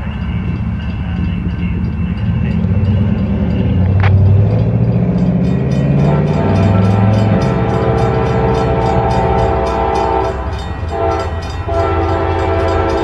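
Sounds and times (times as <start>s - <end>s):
locomotive engines droning: 0.0s - 13.0s.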